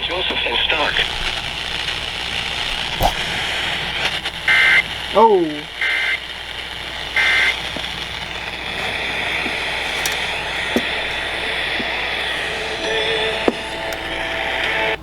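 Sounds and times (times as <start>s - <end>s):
radio hiss: 0.0s - 15.0s
steady chord of tones: 0.0s - 15.0s.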